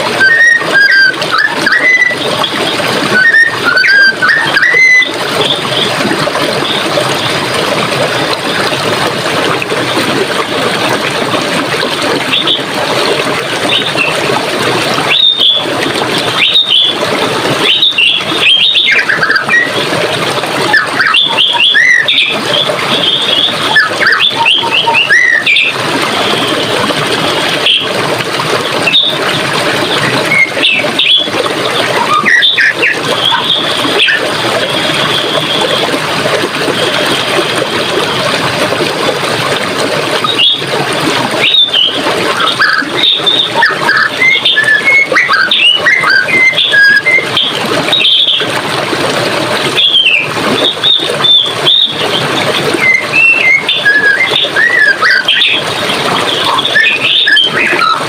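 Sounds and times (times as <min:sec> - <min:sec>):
songbirds chirping and whistling: 0:00.0 - 0:07.4, 0:12.0 - 0:28.0, 0:28.7 - 0:35.7, 0:40.2 - 0:48.6, 0:49.7 - 0:58.0
running water: 0:00.0 - 0:58.0.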